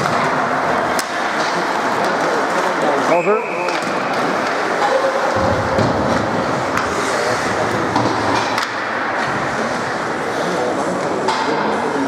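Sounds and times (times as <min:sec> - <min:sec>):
skates scraping ice: 0:00.0 - 0:11.1.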